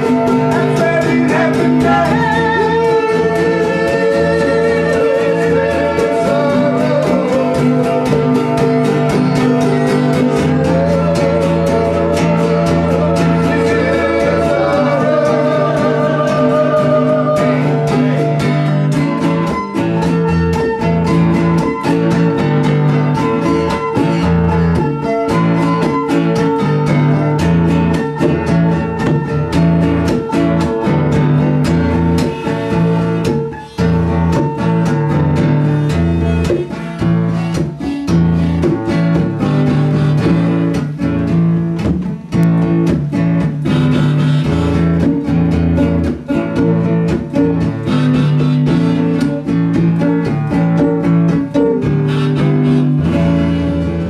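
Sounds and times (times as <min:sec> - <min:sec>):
acoustic guitars and mandolin strumming: 0:00.0 - 0:54.0.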